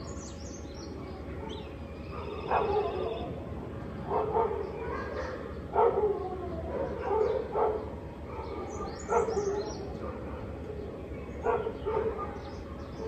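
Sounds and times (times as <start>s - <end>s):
bird chirping: 0.0s - 3.4s, 4.0s - 13.0s.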